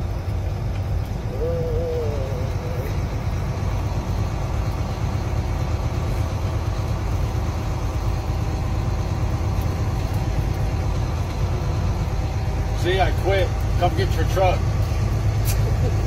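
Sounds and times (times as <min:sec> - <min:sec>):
road noise: 0:00.0 - 0:16.0
truck diesel engine droning: 0:00.0 - 0:16.0.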